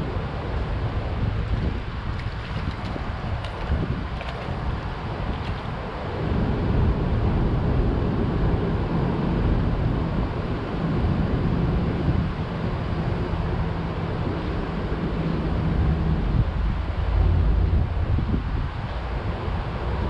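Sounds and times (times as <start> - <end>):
traffic hum on bridge: 0.0 - 20.0
wind on microphone: 0.0 - 20.0.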